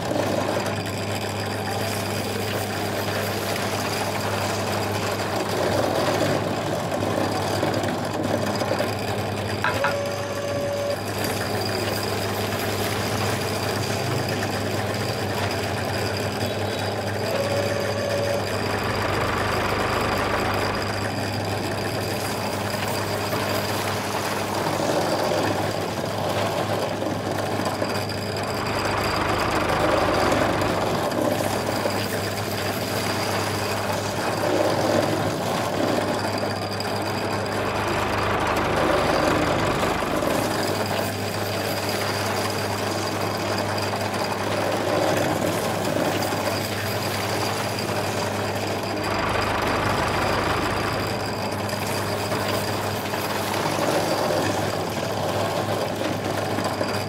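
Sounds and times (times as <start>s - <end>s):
auger boring into sand: 0.0s - 57.0s.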